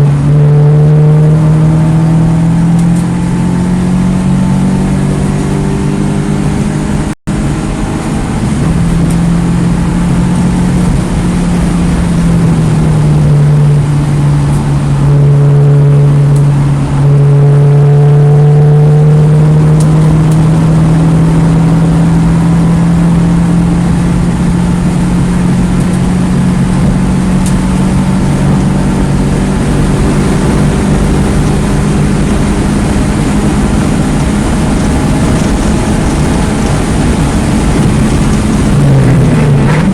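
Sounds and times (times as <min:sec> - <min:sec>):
car engine at high revs: 0:00.0 - 0:39.9
wind noise: 0:00.0 - 0:39.9.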